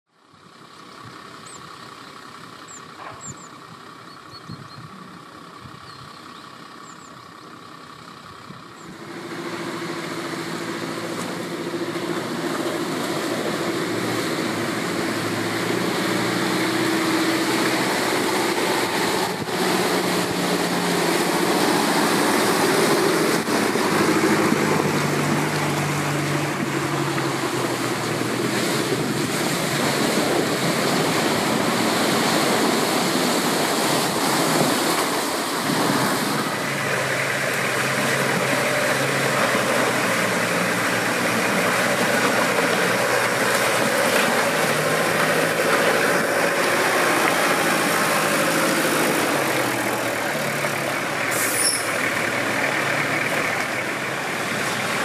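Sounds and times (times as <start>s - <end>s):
engine drone: 0.1s - 55.0s
broad rushing noise: 9.0s - 55.0s.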